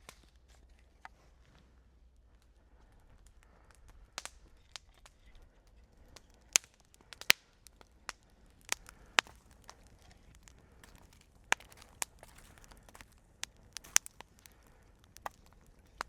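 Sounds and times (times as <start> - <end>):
dry wood snapping and popping: 0.0 - 1.5, 2.1 - 16.0.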